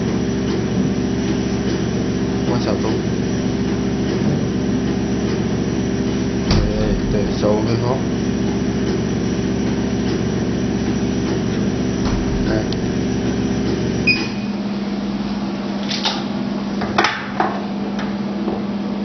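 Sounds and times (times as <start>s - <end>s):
machine humming: 0.0s - 16.9s.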